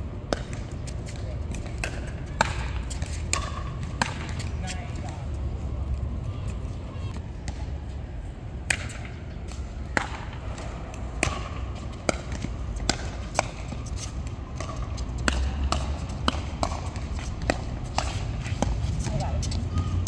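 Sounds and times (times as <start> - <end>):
ball bouncing on hard court: 0.3 - 5.2, 8.7 - 20.0.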